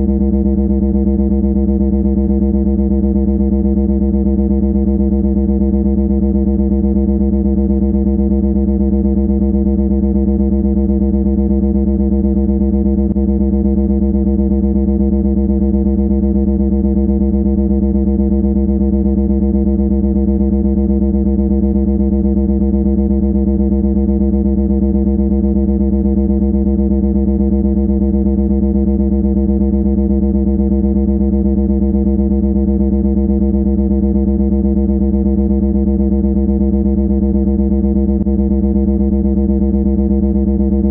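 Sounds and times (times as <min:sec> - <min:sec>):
low buzzing drone with flutter: 0:00.0 - 0:40.9.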